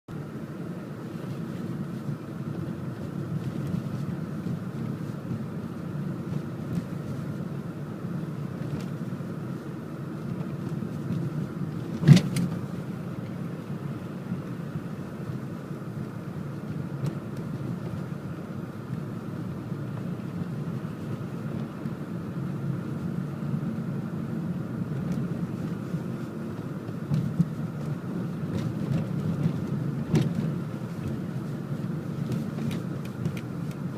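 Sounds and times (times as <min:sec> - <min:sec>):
car engine and road noise: 0:00.1 - 0:33.9.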